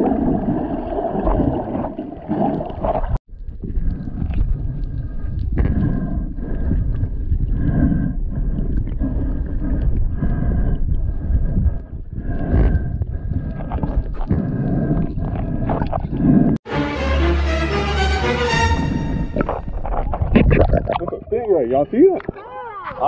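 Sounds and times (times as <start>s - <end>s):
underwater churning rumble: 0.0s - 16.6s, 19.4s - 21.6s.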